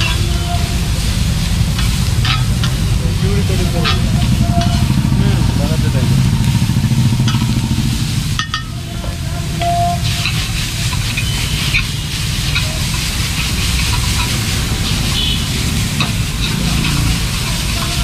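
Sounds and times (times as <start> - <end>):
metal spatula scraping a griddle: 0.0 - 5.2, 6.3 - 18.0
low rumble: 0.0 - 17.8
vegetables sizzling on a griddle: 0.0 - 18.0.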